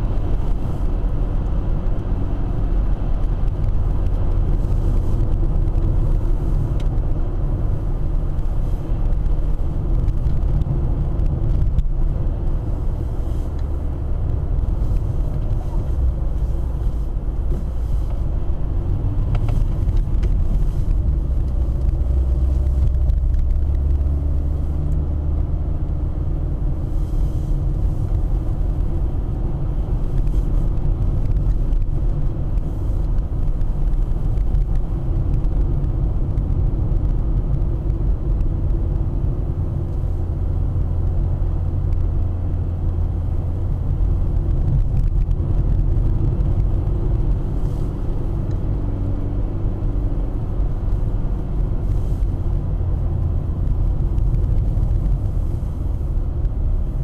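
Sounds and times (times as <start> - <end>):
car engine and tyre road noise: 0.0 - 57.0.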